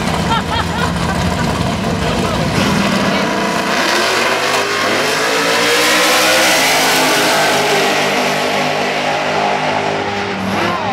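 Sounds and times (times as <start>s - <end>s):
drag cars at full throttle: 0.0s - 10.9s.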